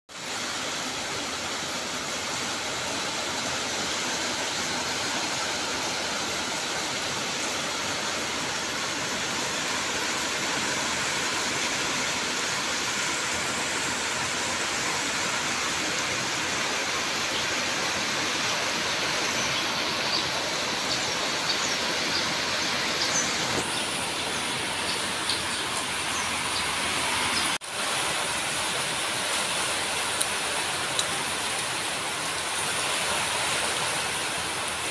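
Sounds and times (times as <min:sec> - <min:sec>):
rain falling steadily: 0:00.1 - 0:34.9.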